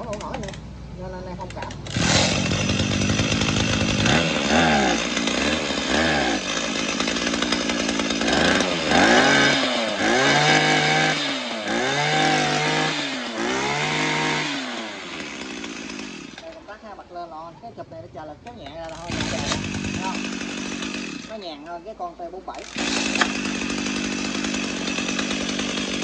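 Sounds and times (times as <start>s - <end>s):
brush cutter engine revving: 0.0s - 26.0s.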